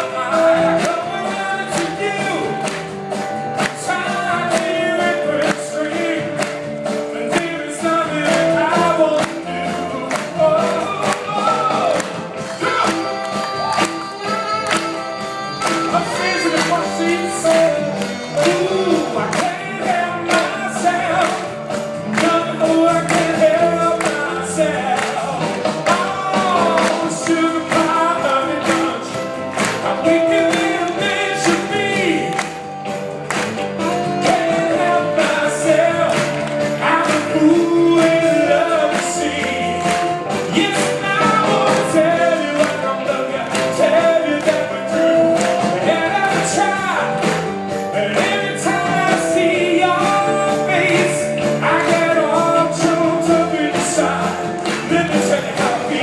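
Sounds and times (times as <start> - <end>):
man singing into a microphone: 0.0 - 2.7, 3.6 - 32.6, 33.8 - 56.0
live band playing: 0.0 - 56.0.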